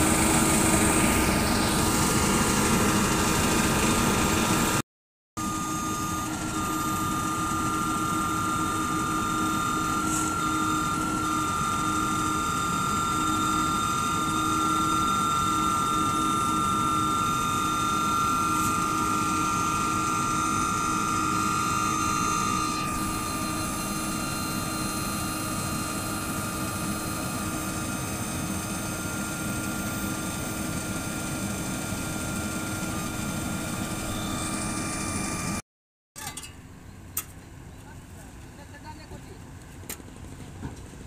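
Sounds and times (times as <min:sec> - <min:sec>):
heavy diesel machinery droning: 0:00.0 - 0:04.8, 0:05.4 - 0:35.6
steady machine whine: 0:00.0 - 0:04.8, 0:05.4 - 0:35.6.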